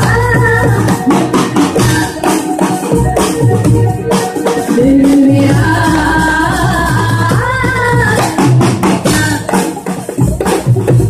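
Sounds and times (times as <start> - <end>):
drum kit: 0.0 - 11.0
live band playing: 0.0 - 11.0.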